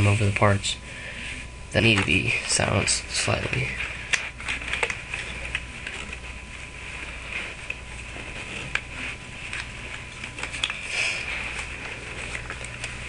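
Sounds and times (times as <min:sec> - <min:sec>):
low hum and hiss: 0:00.0 - 0:13.0
handling clicks and rustles: 0:01.8 - 0:13.0.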